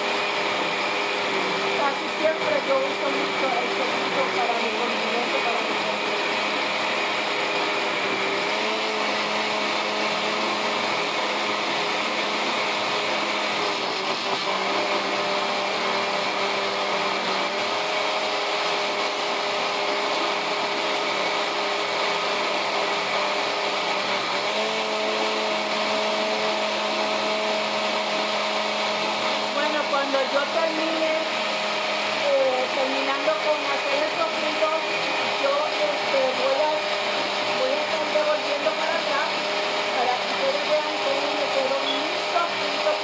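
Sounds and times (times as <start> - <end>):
blender motor running: 0.0 - 43.0.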